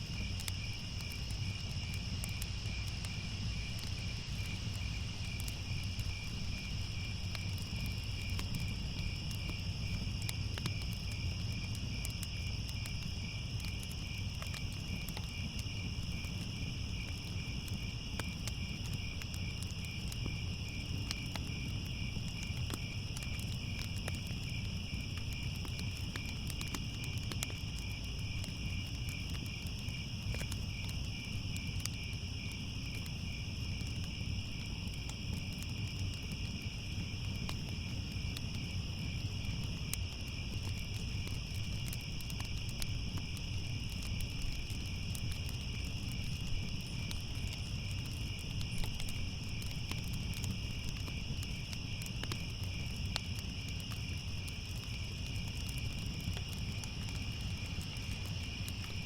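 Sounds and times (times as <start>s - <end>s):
crickets chirping: 0.0s - 59.0s
fire crackling and popping: 0.0s - 59.0s.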